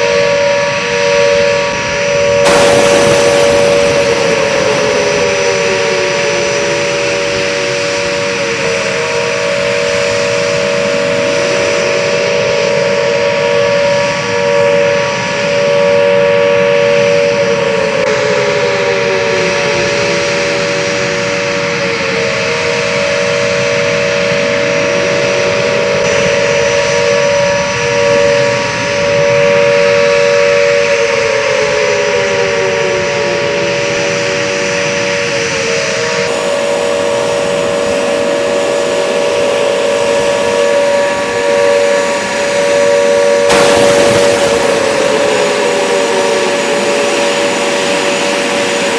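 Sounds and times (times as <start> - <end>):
jet engine whine: 0.0 - 48.9.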